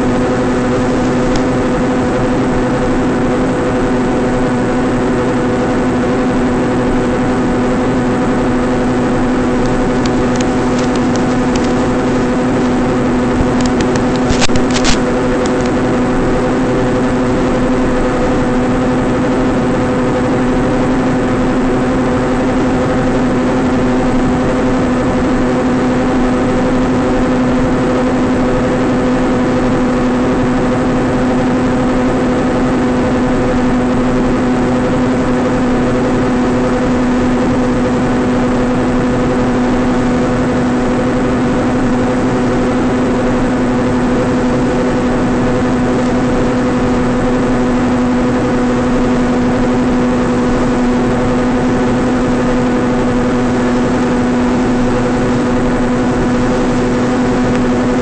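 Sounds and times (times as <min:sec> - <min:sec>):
electric motor buzz: 0:00.0 - 0:58.0.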